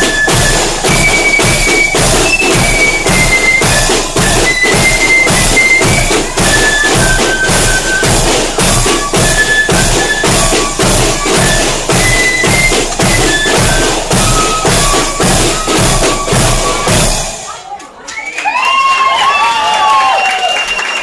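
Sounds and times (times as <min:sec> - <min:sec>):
bass drum beating: 0:00.0 - 0:17.4
high held melody: 0:00.0 - 0:17.6
marching band playing: 0:00.0 - 0:17.6
snare drums: 0:00.0 - 0:17.6.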